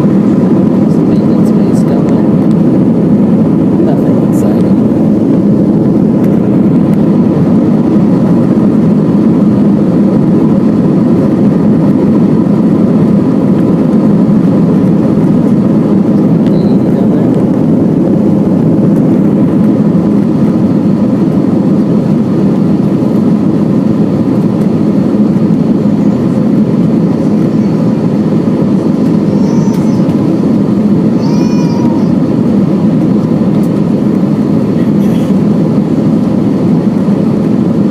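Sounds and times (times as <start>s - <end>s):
aircraft engines and rushing air: 0.0s - 37.9s.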